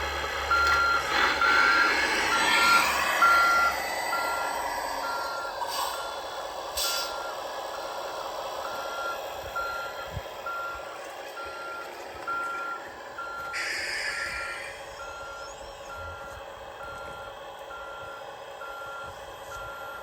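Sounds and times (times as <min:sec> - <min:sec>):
reversing beeper: 0:00.4 - 0:20.0.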